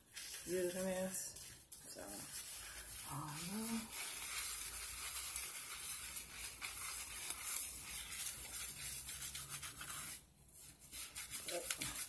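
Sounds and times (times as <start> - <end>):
hands scrubbing lathered hair: 0.0 - 12.0.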